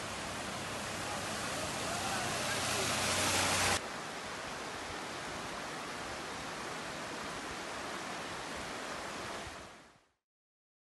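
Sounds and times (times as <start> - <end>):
floodwater rushing: 0.0 - 9.8.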